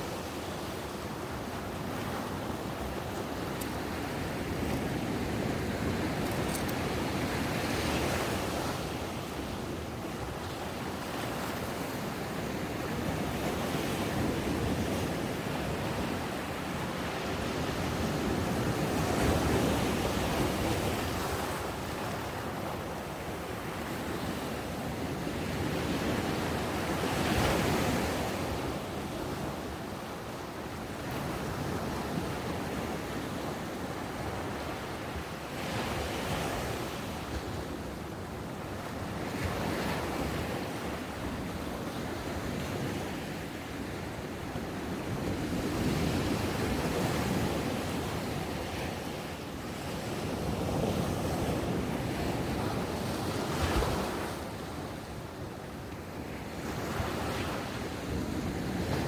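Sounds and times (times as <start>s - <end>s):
ocean waves breaking on a beach: 0.0s - 59.0s.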